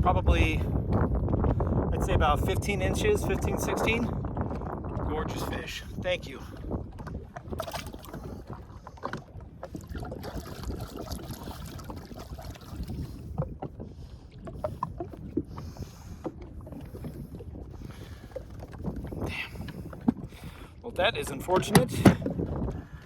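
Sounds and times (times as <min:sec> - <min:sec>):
water splashing against hull: 0:00.0 - 0:23.0
wind rumbling on microphone: 0:00.0 - 0:23.0.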